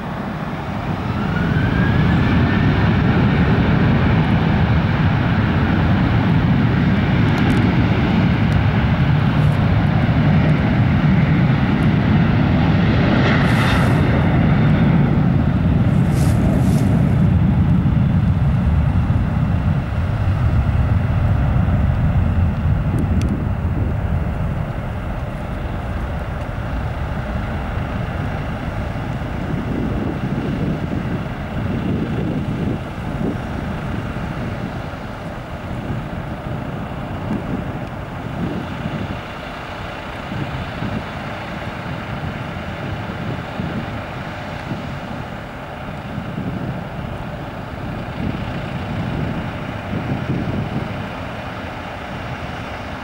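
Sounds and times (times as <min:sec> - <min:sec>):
deep jet engine rumble: 0:00.0 - 0:53.0
jet engines spooling up: 0:00.0 - 0:53.0.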